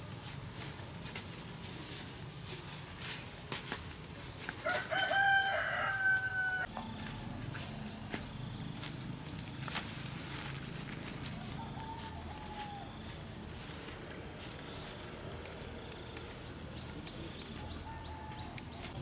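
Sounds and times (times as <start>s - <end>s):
feet rustling through grass: 0.0s - 19.0s
insects buzzing: 0.0s - 19.0s.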